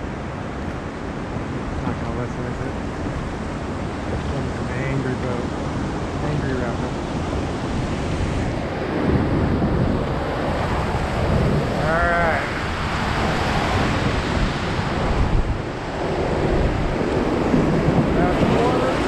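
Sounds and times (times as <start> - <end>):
rushing whitewater: 0.0 - 19.0
wind buffeting microphone: 0.0 - 19.0.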